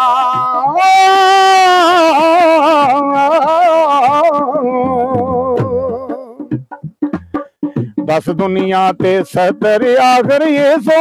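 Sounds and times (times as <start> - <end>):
elderly man singing: 0.0 - 6.4, 8.0 - 11.0.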